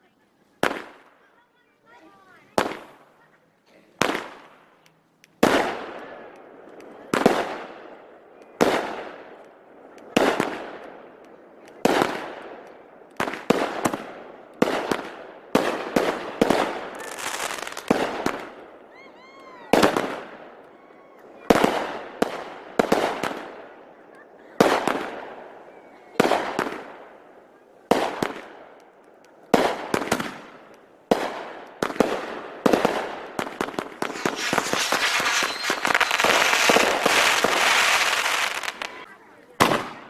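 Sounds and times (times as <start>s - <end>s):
fireworks banging with echoing rumble: 0.6s - 1.2s, 2.1s - 3.3s, 4.0s - 19.0s, 19.7s - 20.7s, 21.4s - 40.0s.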